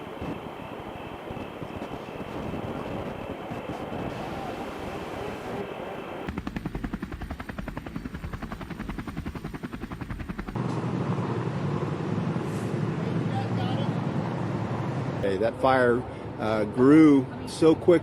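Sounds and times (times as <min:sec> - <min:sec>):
steady rumbling noise: 0:00.0 - 0:15.9
helicopter rotor chopping: 0:00.0 - 0:16.6.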